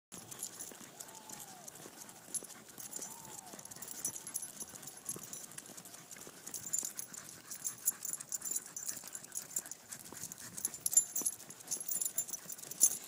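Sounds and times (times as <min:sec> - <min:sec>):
footsteps on pavement: 0:00.2 - 0:12.9.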